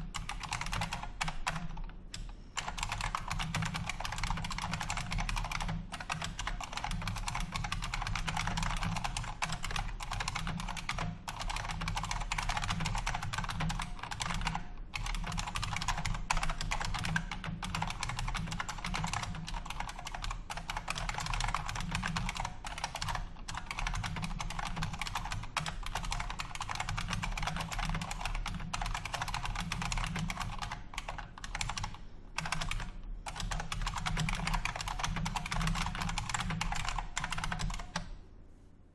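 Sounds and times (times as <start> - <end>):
mechanical keyboard typing: 0.1 - 38.1.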